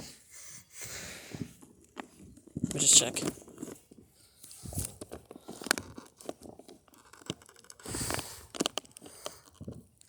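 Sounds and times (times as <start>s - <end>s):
cardboard and wrapper crinkling: 1.6s - 10.0s.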